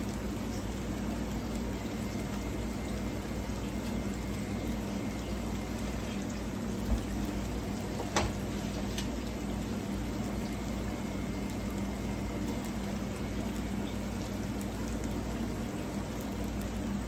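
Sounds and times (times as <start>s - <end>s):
rice bubbling in a pan: 0.0s - 17.0s.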